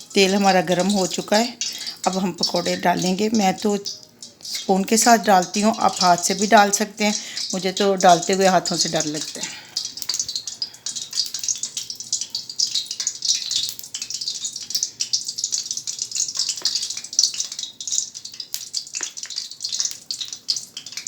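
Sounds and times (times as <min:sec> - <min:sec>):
batter deep-frying in hot oil: 0:00.0 - 0:21.0
oil popping: 0:00.0 - 0:21.0.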